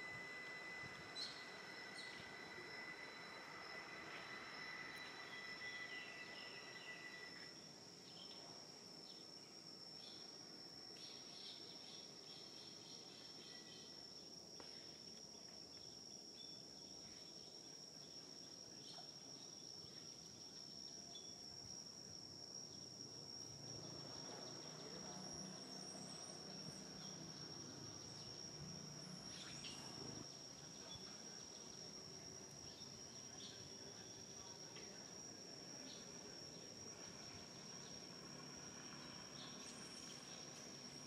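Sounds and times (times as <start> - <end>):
high-pitched insect drone: 0.0 - 15.1, 15.7 - 41.0
lower insect tone: 0.0 - 41.0.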